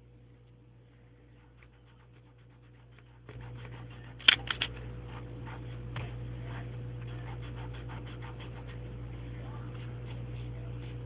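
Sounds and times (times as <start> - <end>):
low steady hum: 0.0 - 11.0
pencil scratching on paper: 1.3 - 11.0.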